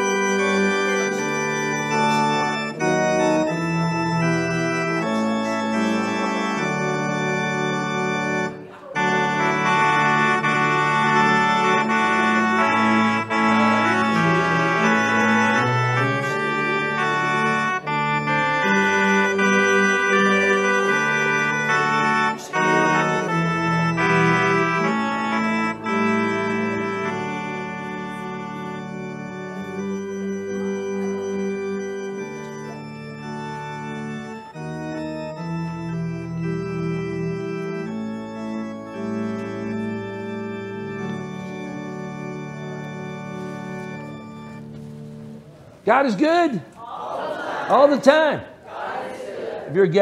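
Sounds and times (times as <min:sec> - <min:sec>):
organ playing slow chords: 0:00.0 - 0:48.3.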